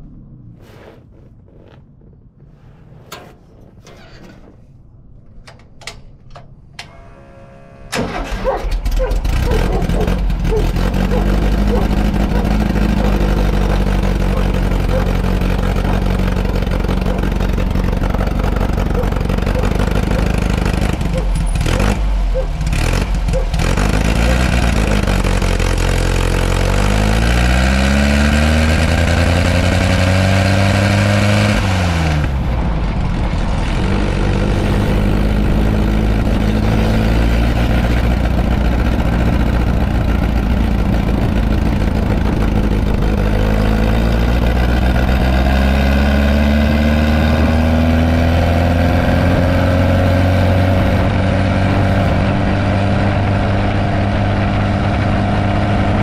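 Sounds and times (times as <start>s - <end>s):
dune buggy engine running: 6.9s - 56.0s.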